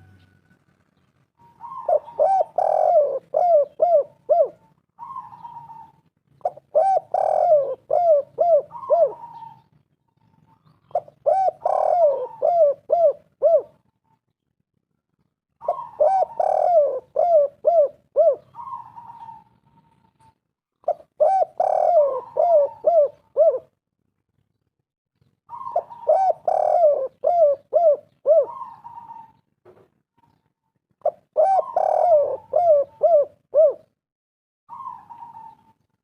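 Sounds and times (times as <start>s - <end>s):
dove cooing: 1.4s - 14.0s, 15.6s - 23.8s, 25.5s - 29.4s, 31.0s - 34.0s, 34.7s - 36.0s.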